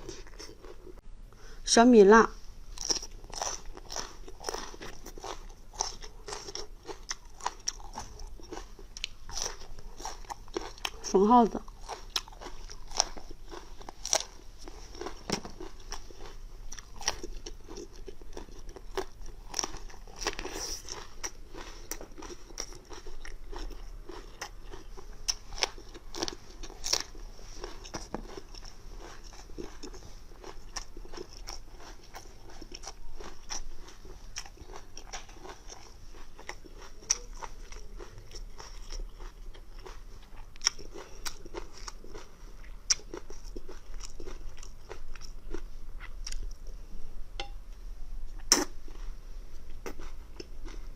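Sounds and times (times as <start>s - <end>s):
person biting and chewing: 2.7s - 11.0s, 11.7s - 46.7s, 48.4s - 48.8s.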